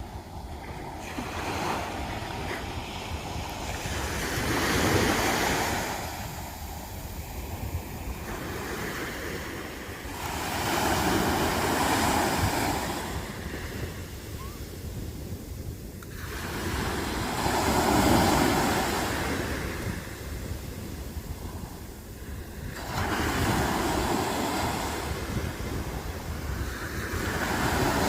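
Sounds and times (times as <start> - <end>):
sea waves breaking on beach: 0.0 - 28.0
wind rumbling on microphone: 0.0 - 28.0.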